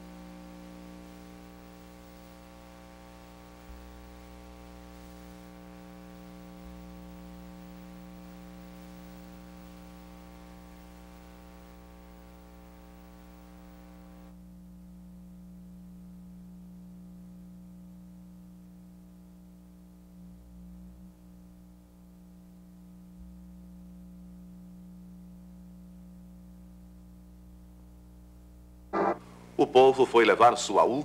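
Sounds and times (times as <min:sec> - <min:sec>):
faint electrical hum: 0:00.0 - 0:31.0
tape hiss: 0:00.0 - 0:31.0.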